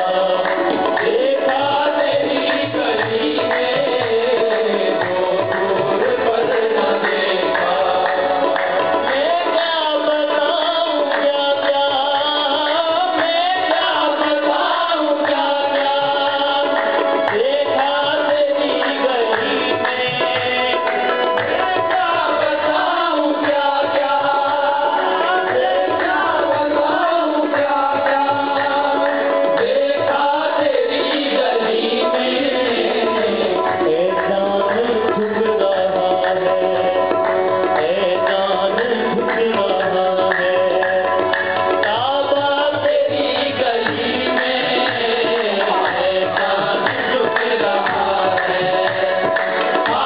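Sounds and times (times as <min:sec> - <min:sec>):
percussion accompaniment: 0:00.0 - 0:50.0
person singing devotional song: 0:00.0 - 0:50.0.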